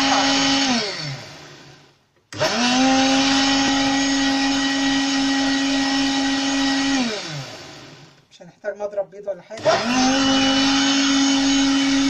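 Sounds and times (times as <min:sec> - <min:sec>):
blender motor whining: 0:00.0 - 0:08.3, 0:09.6 - 0:12.0.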